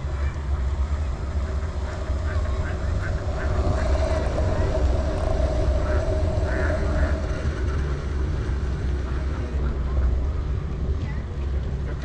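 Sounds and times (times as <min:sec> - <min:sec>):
faint steady hum: 0:00.0 - 0:12.0
wind buffeting microphone: 0:00.0 - 0:12.0.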